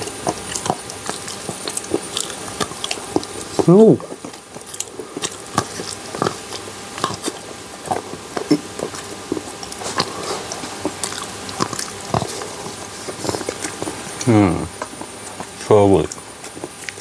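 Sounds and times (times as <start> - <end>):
chewing chocolate: 0.0 - 17.0.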